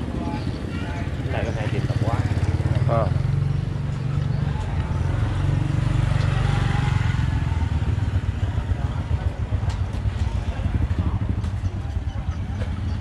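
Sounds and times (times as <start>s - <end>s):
small motorbike engine running: 0.4s - 13.0s.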